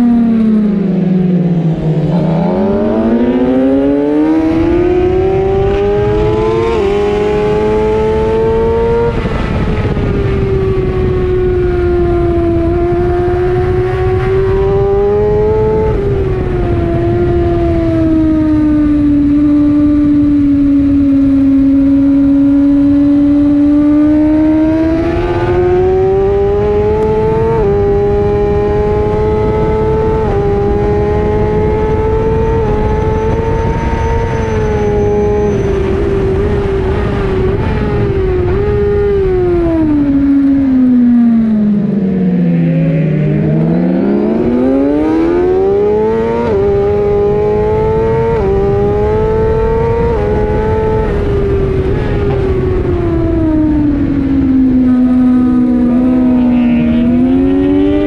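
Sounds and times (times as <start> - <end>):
motorcycle engine revving hard: 0.0 - 58.0
wind rush: 0.0 - 58.0.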